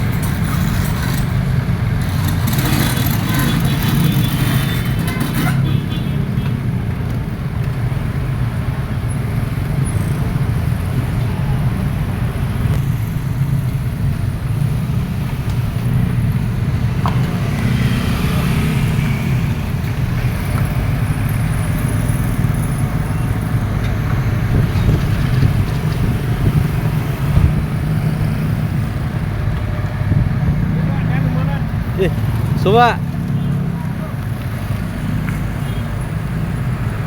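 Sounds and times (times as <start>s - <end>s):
excavator diesel engine rumbling: 0.0s - 37.0s.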